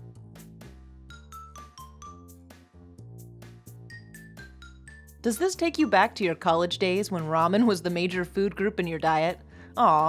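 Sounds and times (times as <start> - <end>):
light instrumental music: 0.0 - 10.0.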